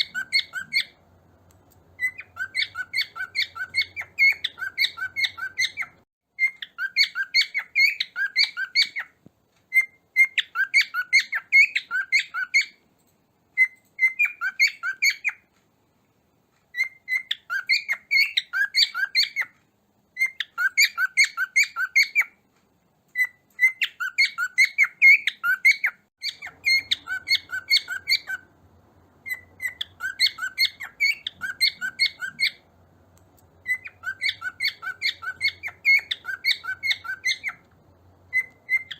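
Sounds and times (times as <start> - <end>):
cockatiel chirping: 0.0 - 1.0, 2.0 - 12.8, 13.6 - 15.5, 16.7 - 22.4, 23.1 - 28.6, 29.2 - 32.7, 33.6 - 38.9.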